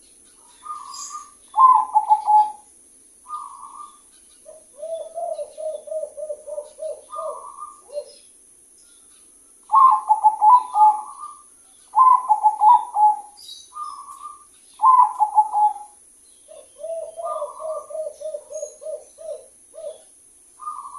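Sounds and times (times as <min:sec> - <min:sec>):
doves cooing: 0:00.0 - 0:08.2, 0:09.7 - 0:20.9.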